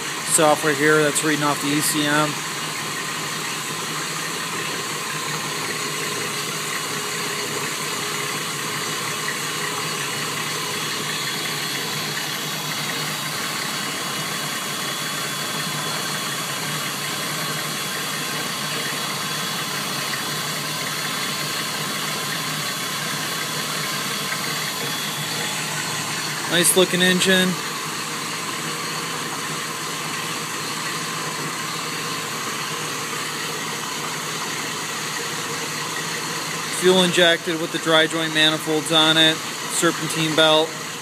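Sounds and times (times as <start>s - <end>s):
boat engine idling: 0.0s - 41.0s.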